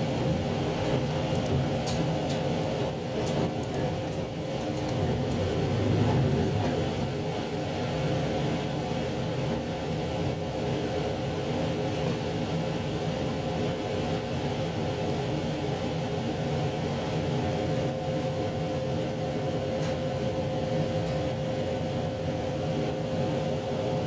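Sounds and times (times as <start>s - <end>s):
diesel engine drone: 0.0s - 24.0s
wheels rumbling on rail: 0.0s - 24.0s.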